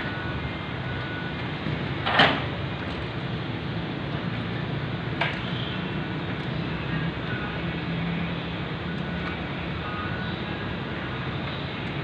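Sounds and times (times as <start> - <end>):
road-marking machine hum and hiss: 0.0 - 12.0.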